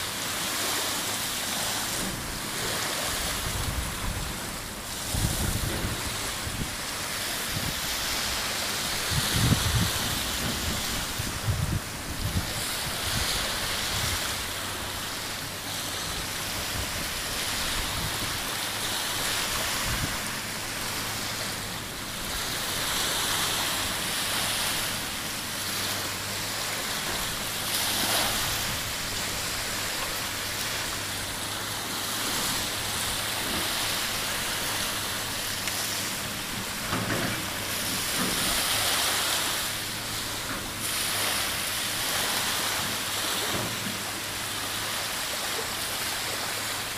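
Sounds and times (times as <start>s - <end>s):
surf washing on beach: 0.0s - 46.9s.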